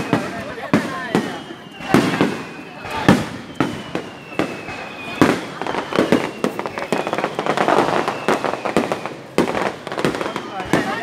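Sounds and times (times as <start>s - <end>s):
fireworks bangs: 0.0s - 11.0s
fireworks crackling pops: 0.0s - 11.0s.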